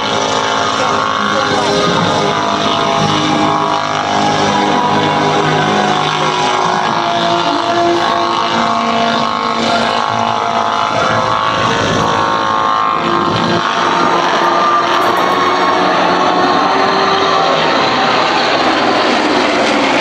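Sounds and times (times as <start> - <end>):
propeller plane engines droning: 0.0 - 20.0.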